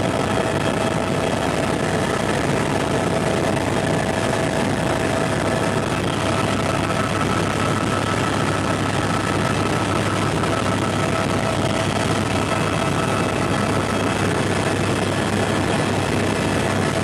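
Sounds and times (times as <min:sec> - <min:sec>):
constant high whine: 0:00.0 - 0:17.0
helicopter engine and rotor noise: 0:00.0 - 0:17.0.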